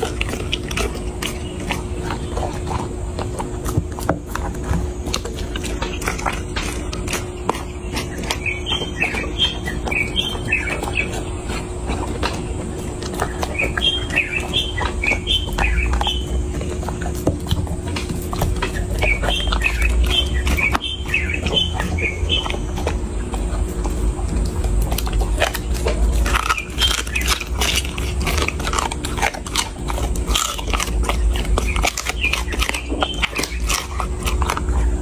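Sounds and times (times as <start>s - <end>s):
dog chewing and crunching: 0.0s - 35.0s
small birds chirping: 0.0s - 35.0s.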